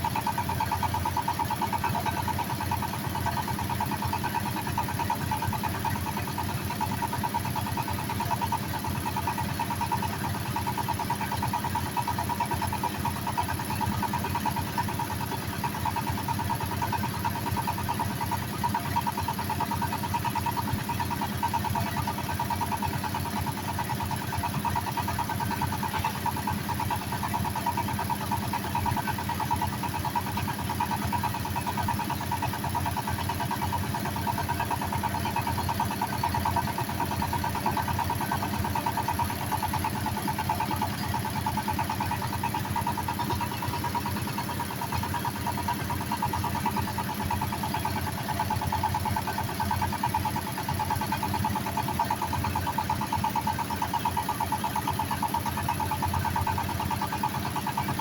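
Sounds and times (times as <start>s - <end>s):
drilling machine engine running: 9.9s - 58.0s.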